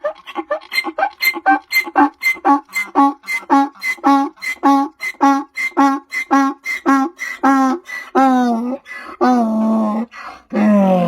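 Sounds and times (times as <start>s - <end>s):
donkey braying: 0.0s - 11.0s.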